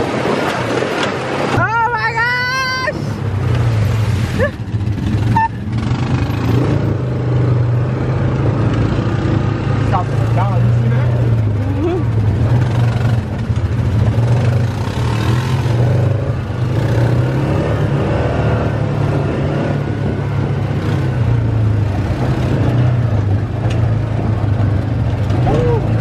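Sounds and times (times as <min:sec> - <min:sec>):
vehicle engine droning: 0:02.4 - 0:26.0.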